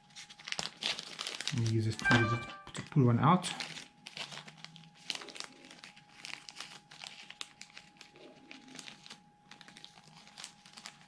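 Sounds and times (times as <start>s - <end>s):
plastic bags crinkling: 0.1s - 2.0s, 3.4s - 11.0s.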